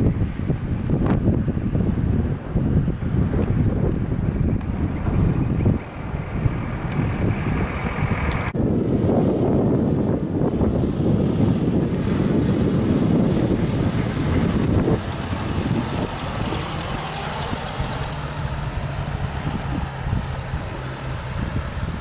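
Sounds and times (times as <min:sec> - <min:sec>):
propeller plane flying overhead: 0:00.0 - 0:22.0
wind rumble on microphone: 0:00.0 - 0:22.0.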